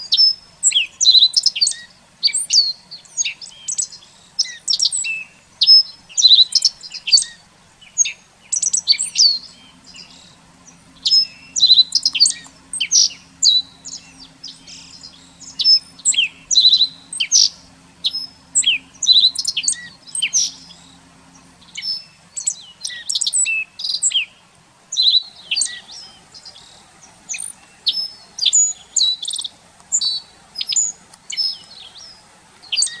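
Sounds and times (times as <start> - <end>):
faint low hum: 0.0 - 32.8
songbirds chirping: 0.0 - 33.0.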